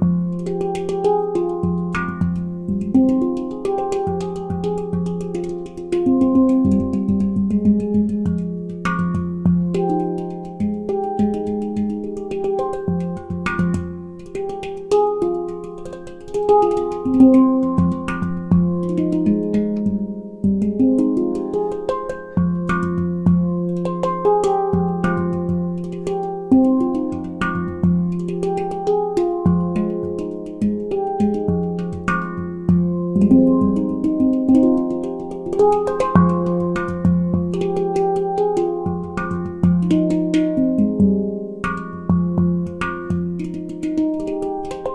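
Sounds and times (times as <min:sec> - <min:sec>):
handpan played by hand: 0:00.0 - 0:44.9.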